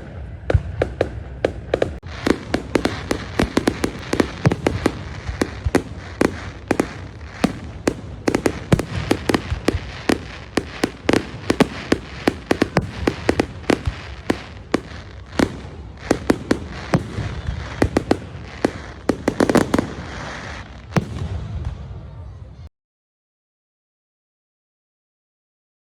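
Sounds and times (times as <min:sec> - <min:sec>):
fireworks bangs and cracks: 0:00.0 - 0:22.6.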